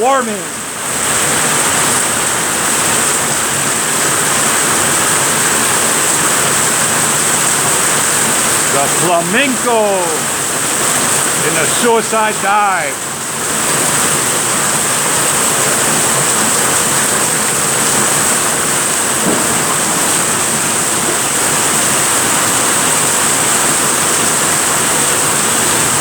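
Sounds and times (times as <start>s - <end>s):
heavy rain on a roof: 0.0s - 26.0s.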